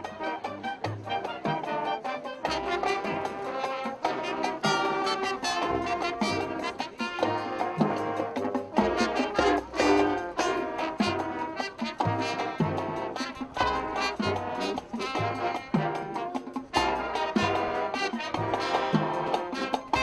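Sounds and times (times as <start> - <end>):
bass drums and percussion: 0.0 - 20.0
brass section melody: 0.0 - 20.0.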